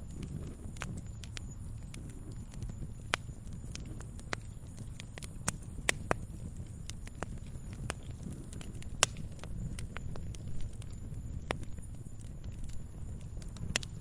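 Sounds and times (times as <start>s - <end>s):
low rumble of flames: 0.0s - 14.0s
wood crackling and popping: 0.0s - 14.0s.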